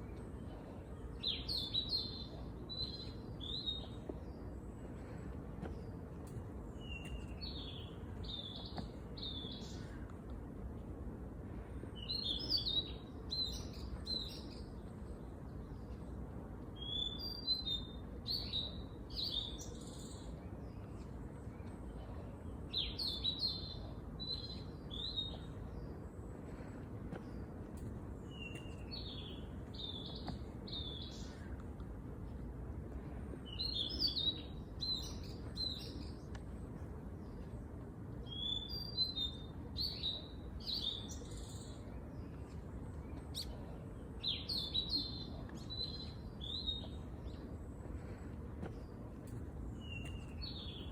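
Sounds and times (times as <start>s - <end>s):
low background noise: 0.0s - 50.9s
songbird chirping: 0.0s - 50.9s.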